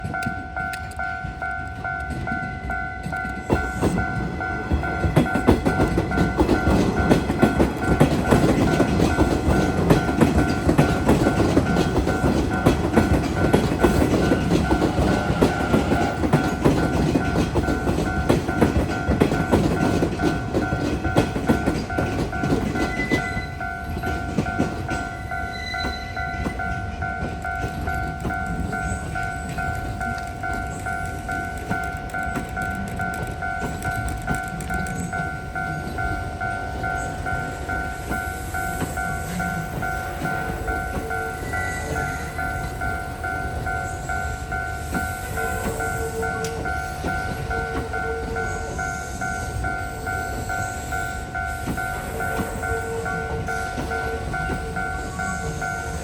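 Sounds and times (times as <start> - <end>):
level crossing warning bell: 0.0 - 56.0
train wheels clattering over rail joints: 0.0 - 56.0.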